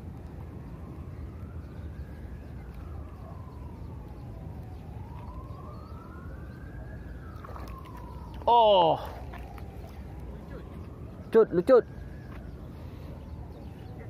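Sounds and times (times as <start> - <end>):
faint siren wailing: 0.0 - 14.0.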